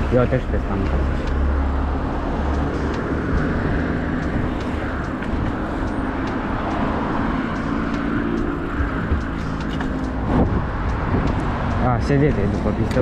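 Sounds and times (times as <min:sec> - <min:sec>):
road traffic: 0:00.0 - 0:13.0
wind rush on microphone: 0:01.6 - 0:13.0.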